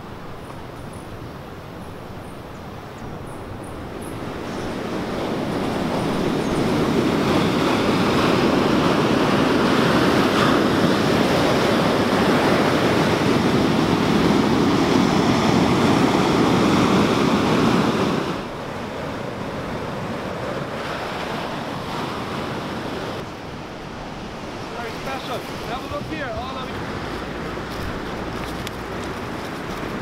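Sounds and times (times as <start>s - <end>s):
ocean waves breaking on beach: 2.7s - 30.0s
wind on microphone: 3.0s - 30.0s.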